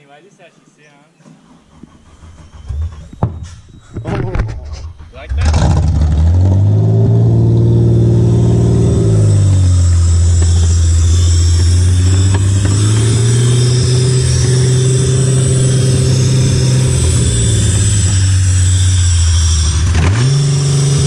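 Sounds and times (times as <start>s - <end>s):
car engine running: 1.7s - 21.0s.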